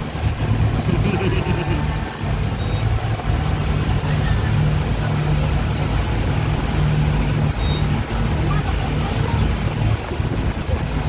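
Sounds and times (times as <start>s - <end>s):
speedboat engines droning: 0.0s - 11.0s.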